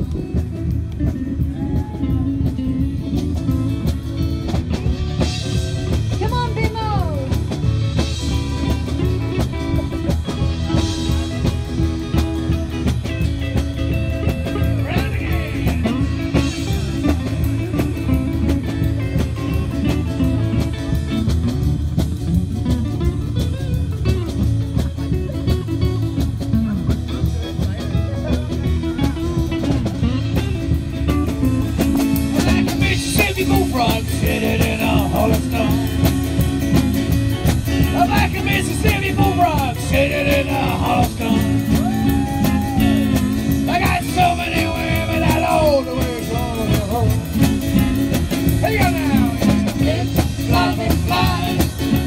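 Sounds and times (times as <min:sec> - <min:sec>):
band playing: 0:00.0 - 0:52.0.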